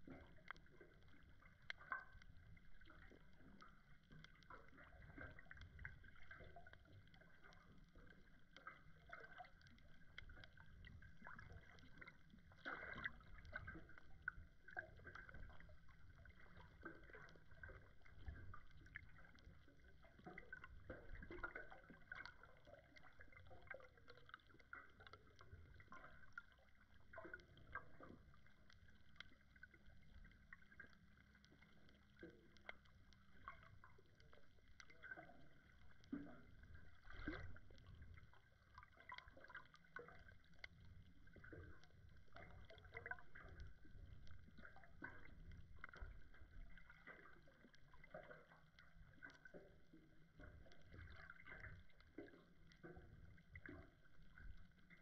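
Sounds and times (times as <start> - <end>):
small underwater clicks and crackles: 0.0 - 55.0
underwater rumble of moving water: 0.0 - 55.0.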